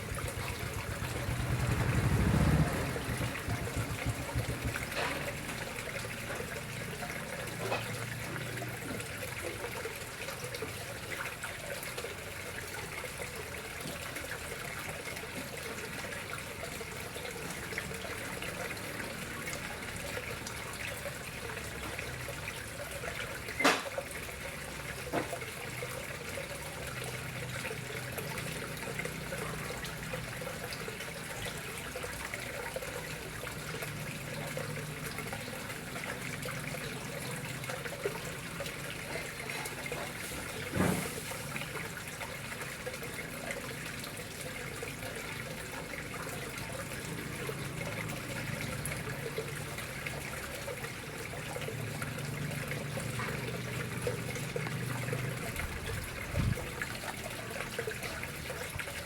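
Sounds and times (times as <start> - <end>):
water flowing into pond: 0.0 - 59.0.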